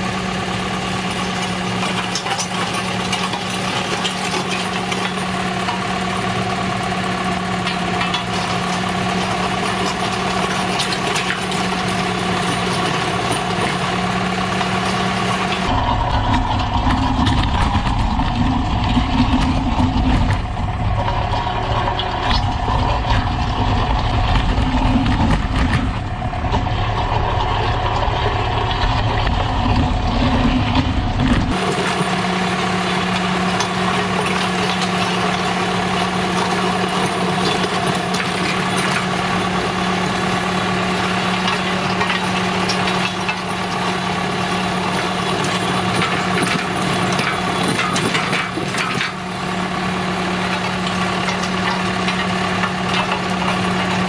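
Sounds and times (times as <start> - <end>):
auger boring into stony soil: 0.0 - 54.0
tractor engine running: 0.0 - 54.0.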